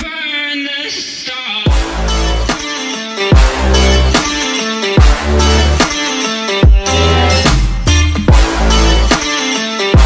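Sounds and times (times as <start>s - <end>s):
electronic trap music: 0.0s - 10.0s.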